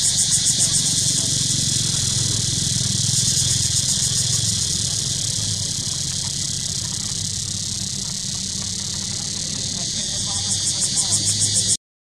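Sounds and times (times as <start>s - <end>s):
high-pitched drone: 0.0s - 11.8s.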